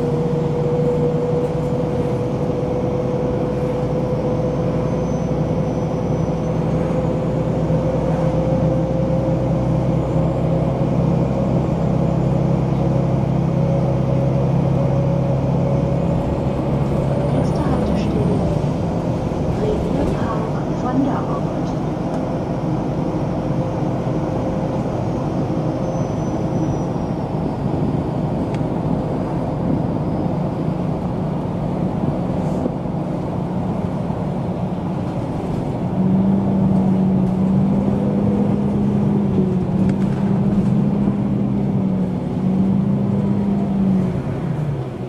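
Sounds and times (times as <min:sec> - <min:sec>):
bus engine drone: 0:00.0 - 0:45.0.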